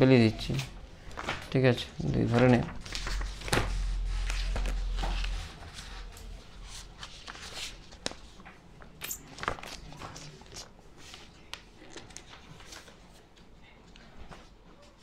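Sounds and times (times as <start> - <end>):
paper rustling: 0.6 - 13.5.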